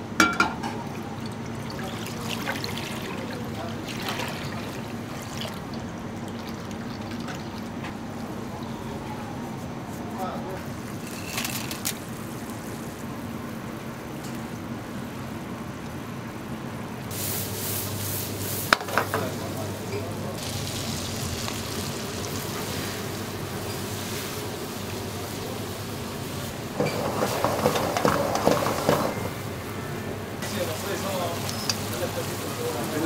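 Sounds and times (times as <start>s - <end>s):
food bubbling and sizzling: 0.7s - 8.9s, 10.7s - 18.7s, 20.4s - 29.8s, 30.4s - 33.0s.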